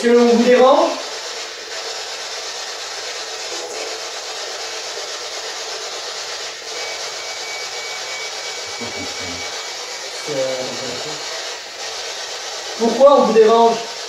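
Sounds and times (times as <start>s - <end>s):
static hiss: 1.0s - 14.0s.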